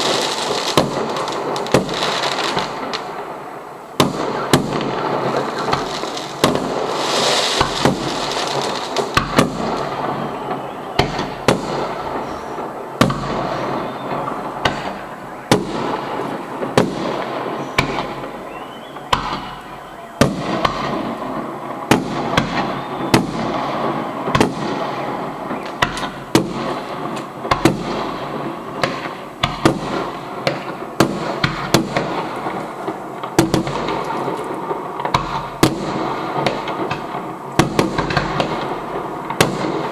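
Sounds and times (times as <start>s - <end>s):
fireworks bangs: 0.0s - 39.9s
fireworks crackle: 0.0s - 39.9s.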